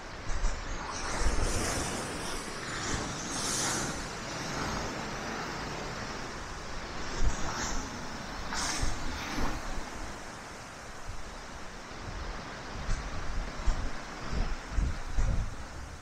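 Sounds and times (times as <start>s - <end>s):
waves breaking on shore: 0.0s - 16.0s
wind rumbling on microphone: 0.0s - 16.0s.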